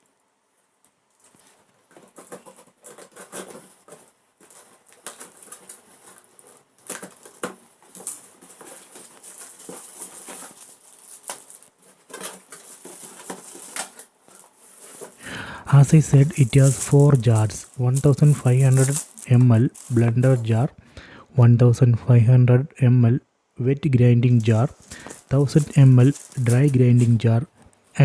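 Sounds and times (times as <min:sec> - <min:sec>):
packaging rustling: 0:01.0 - 0:20.7, 0:24.7 - 0:27.8.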